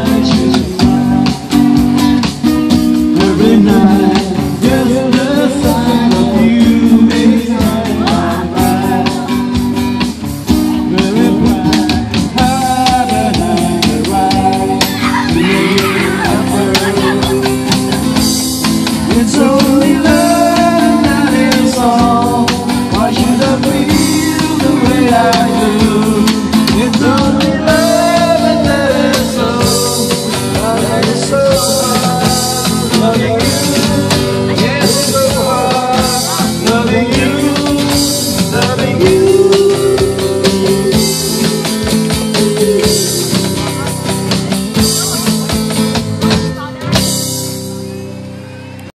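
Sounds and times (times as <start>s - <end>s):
man singing into microphone: 0.0s - 9.7s, 10.7s - 44.1s
electronic drum pad beat: 0.0s - 48.1s
strummed acoustic guitar: 0.0s - 48.8s.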